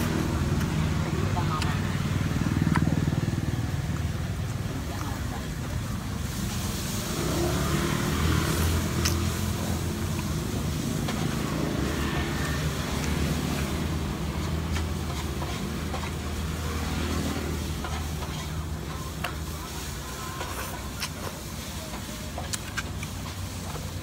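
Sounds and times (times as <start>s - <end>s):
street traffic engine hum: 0.0s - 24.0s.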